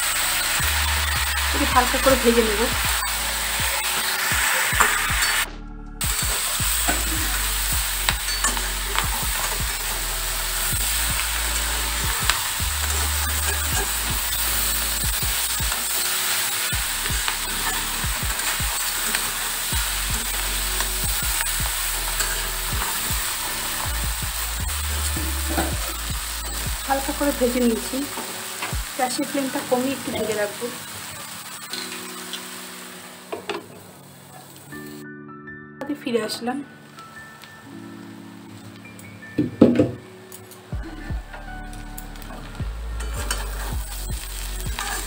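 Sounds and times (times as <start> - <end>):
food sizzling in oil: 0.0 - 35.0, 41.6 - 45.0.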